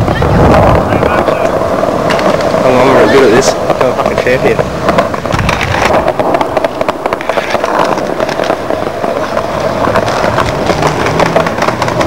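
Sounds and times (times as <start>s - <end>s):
skateboard knocks: 0.0s - 12.0s
skateboard wheels rolling on concrete: 0.0s - 12.0s.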